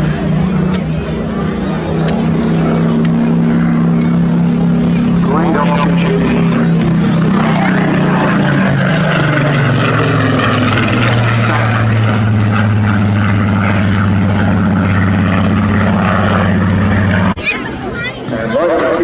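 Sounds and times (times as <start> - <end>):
propeller plane flying past: 0.0 - 17.4.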